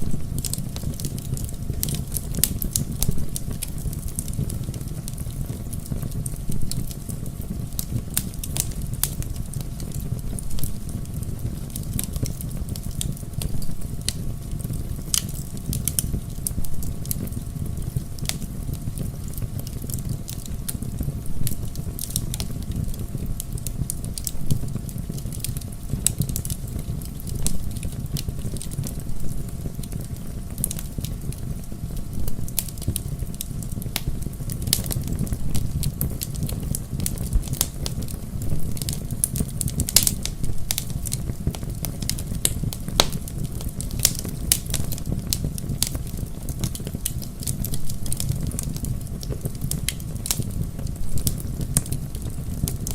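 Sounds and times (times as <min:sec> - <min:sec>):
bonfire low rumble: 0:00.0 - 0:52.9
burning logs crackling and popping: 0:00.0 - 0:52.9.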